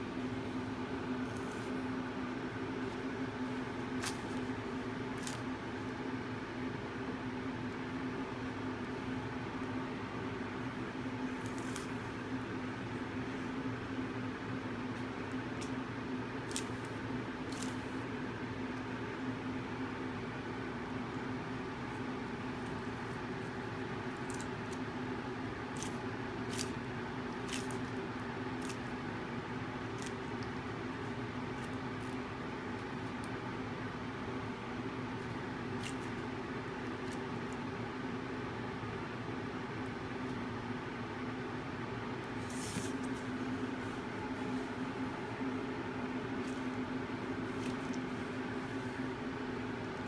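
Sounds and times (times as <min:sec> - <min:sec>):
steady mechanical hum: 0:00.0 - 0:50.0.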